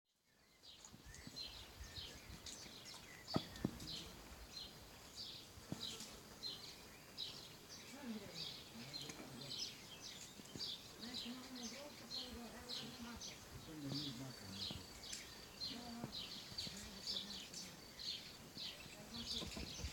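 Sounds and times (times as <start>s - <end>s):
small bird chirping: 0.2s - 19.9s.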